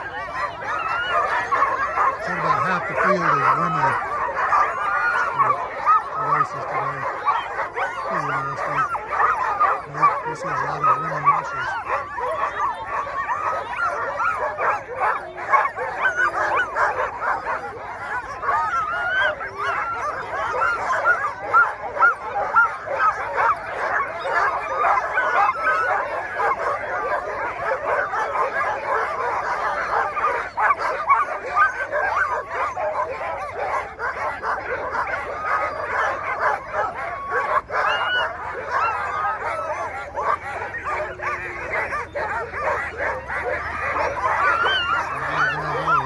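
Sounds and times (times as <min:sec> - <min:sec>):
sled dogs yipping and barking: 0:00.0 - 0:46.0.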